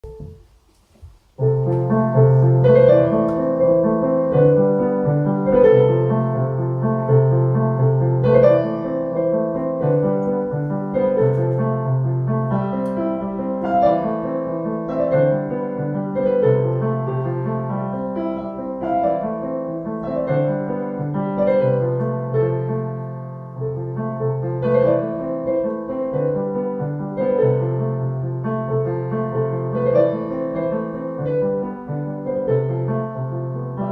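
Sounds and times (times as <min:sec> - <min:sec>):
solo piano piece: 0:00.0 - 0:33.9.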